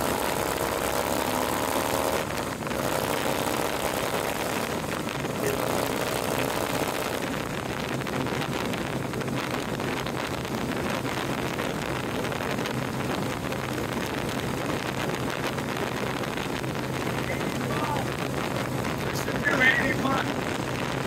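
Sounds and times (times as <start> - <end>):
motorcycle engine cruising: 0.0 - 21.0
wind rushing over microphone: 0.0 - 21.0.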